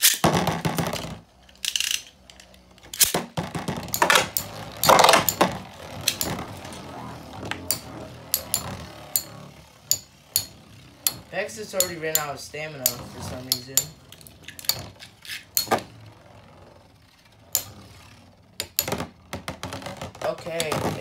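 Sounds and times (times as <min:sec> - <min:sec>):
spinning tops clicking and colliding: 0:00.0 - 0:21.0
spinning tops whirring: 0:00.0 - 0:21.0.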